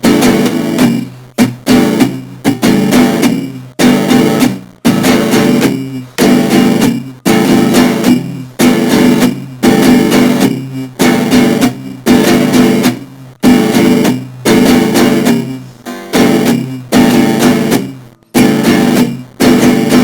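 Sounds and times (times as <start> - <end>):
guitar strumming chords: 0.0 - 20.0.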